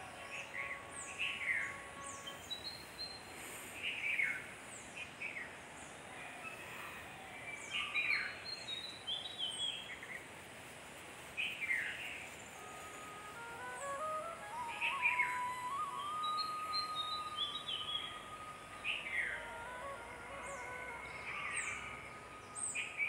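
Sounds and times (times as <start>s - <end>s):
bird chirping: 0.0s - 10.3s, 11.4s - 23.0s
steady background hiss: 0.0s - 23.0s.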